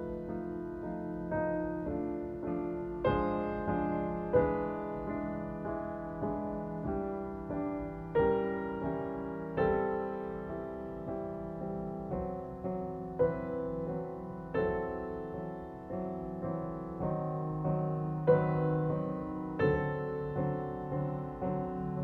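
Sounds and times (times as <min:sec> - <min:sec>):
soft slow piano music: 0:00.0 - 0:22.0.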